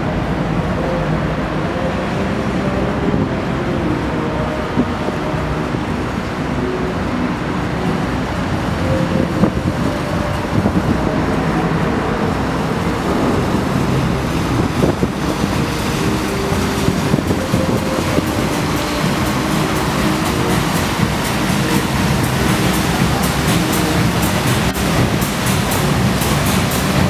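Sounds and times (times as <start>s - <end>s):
outboard motors running: 0.0s - 27.0s
wind on microphone: 0.0s - 27.0s.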